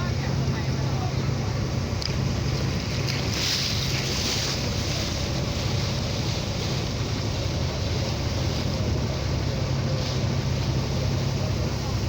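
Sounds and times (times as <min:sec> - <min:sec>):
motorboat engine droning: 0:00.0 - 0:12.0
water rushing along hull: 0:00.0 - 0:12.0.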